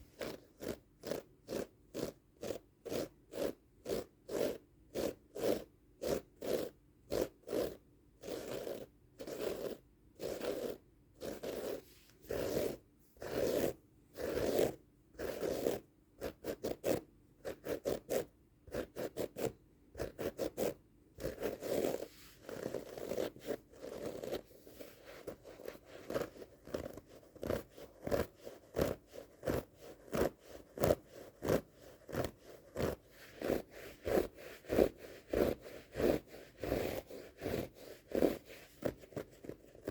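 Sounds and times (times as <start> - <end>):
scratching on a rug: 0.0 - 39.9.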